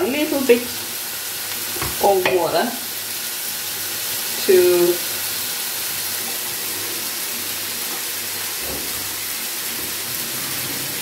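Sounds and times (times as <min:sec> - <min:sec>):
hissing sizzle from a pot: 0:00.0 - 0:11.0.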